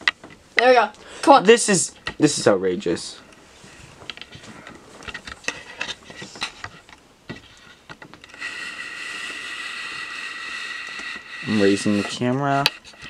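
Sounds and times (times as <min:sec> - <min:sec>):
steady hiss with faint whine: 0:00.0 - 0:13.0.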